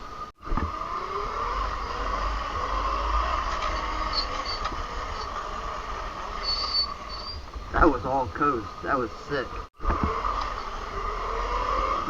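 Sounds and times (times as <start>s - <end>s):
electric dirt bike whirring: 0.0s - 12.0s.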